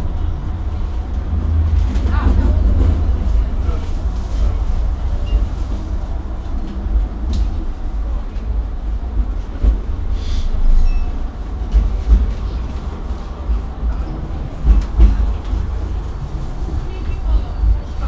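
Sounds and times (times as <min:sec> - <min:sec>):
tram running low rumble: 0:00.0 - 0:18.0.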